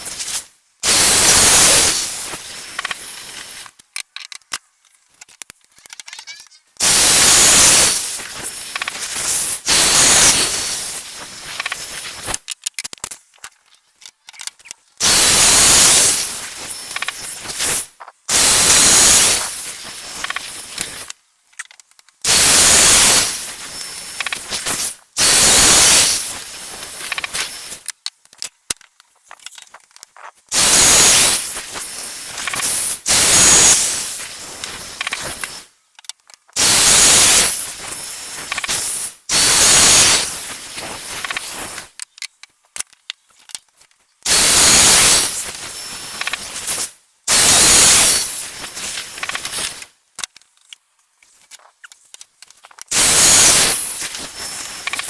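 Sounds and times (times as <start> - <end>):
clicks and handling noise: 0.0 - 55.0.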